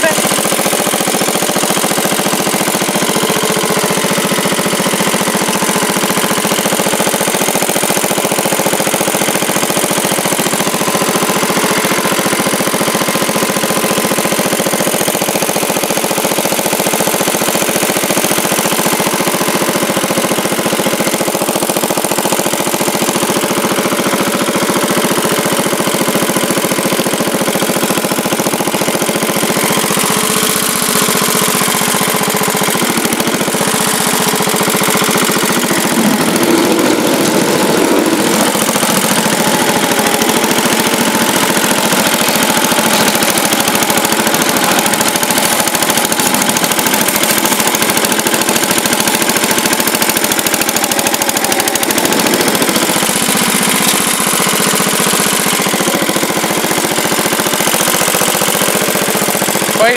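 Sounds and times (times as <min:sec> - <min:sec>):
plow blade pushing snow: 0:00.0 - 0:59.9
tractor engine running: 0:00.0 - 0:59.9.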